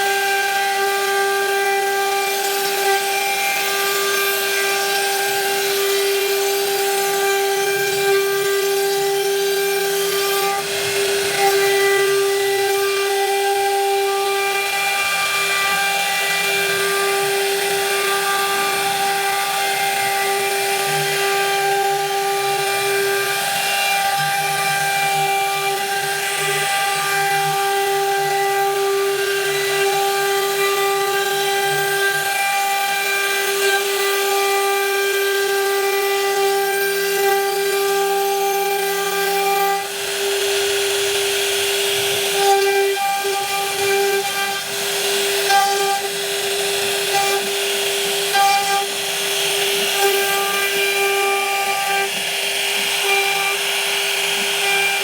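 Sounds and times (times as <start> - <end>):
router spindle whine cutting wood: 0.0 - 55.0.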